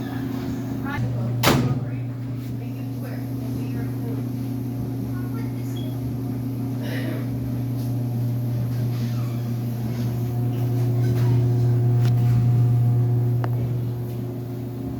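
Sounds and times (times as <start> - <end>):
clothes dryer humming: 0.0 - 14.9.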